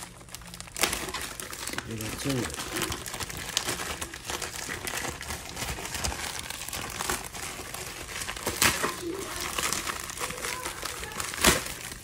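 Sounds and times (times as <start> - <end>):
envelope crinkling: 0.0 - 12.0.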